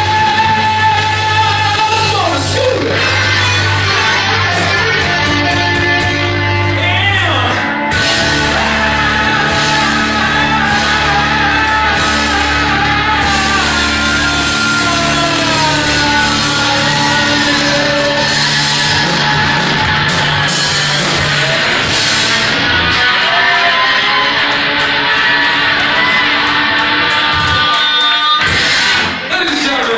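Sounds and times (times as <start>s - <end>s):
person singing and shouting: 0.0s - 28.5s
electric guitars: 0.0s - 29.9s
live rock band playing: 0.0s - 29.9s.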